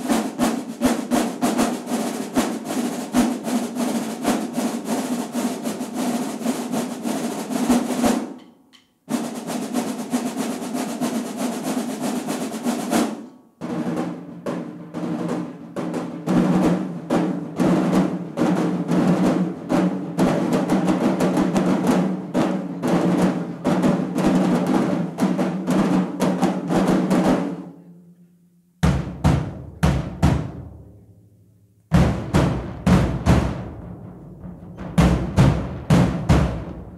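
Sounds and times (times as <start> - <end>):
marching drumline playing: 0.0 - 8.5, 9.1 - 27.7, 28.8 - 30.9, 31.9 - 36.9
drum and cymbal hits ringing: 0.0 - 27.6, 32.0 - 36.9
snare rolls: 0.0 - 27.6, 31.9 - 36.9.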